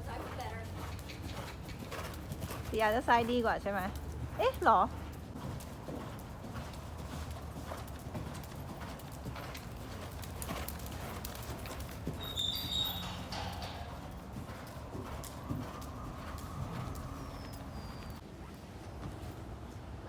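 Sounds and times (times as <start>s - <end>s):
horse hooves clip-clopping: 0.0s - 20.0s.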